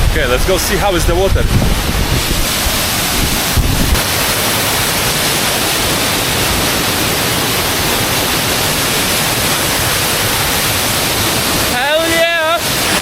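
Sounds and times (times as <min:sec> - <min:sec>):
wind buffeting microphone: 0:00.0 - 0:11.7
waterfall rushing: 0:00.0 - 0:13.0.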